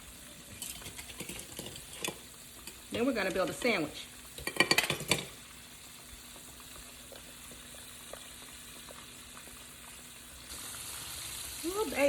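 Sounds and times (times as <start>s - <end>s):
grease popping: 0.0s - 11.8s
chicken frying in grease: 0.0s - 12.0s.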